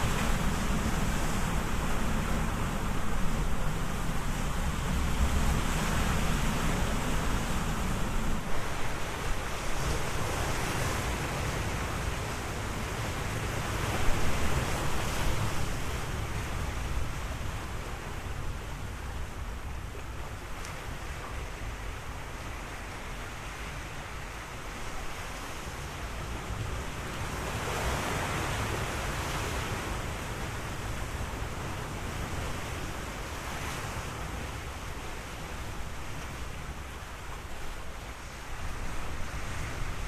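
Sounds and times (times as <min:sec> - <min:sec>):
surf-like rushing noise: 0:00.0 - 0:40.0.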